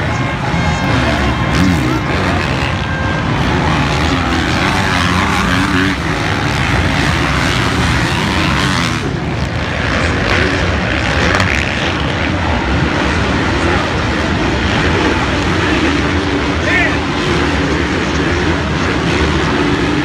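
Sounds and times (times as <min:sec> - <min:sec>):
motocross engines buzzing: 0:00.0 - 0:20.0.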